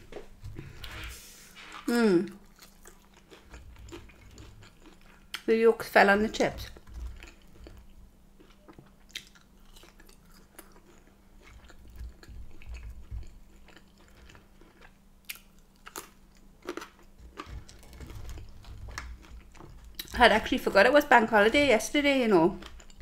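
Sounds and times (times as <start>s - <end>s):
chewing chips with crunches: 1.7s - 5.5s, 6.1s - 23.0s.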